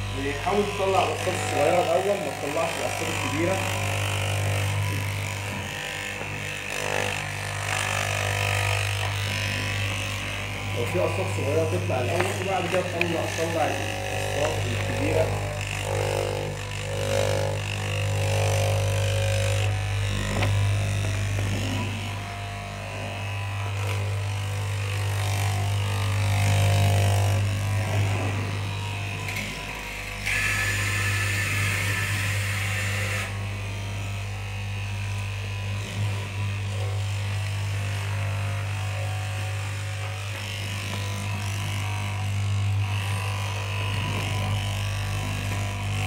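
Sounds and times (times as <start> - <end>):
cloth cutting machine hum: 0.0 - 46.0.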